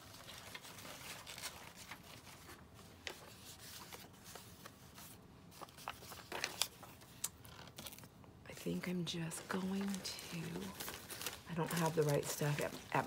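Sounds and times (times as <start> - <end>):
paper rustling: 0.0 - 8.1, 8.8 - 13.0.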